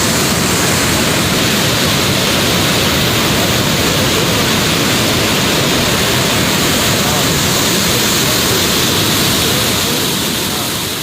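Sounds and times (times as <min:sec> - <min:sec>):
loud rushing water: 0:00.0 - 0:11.0.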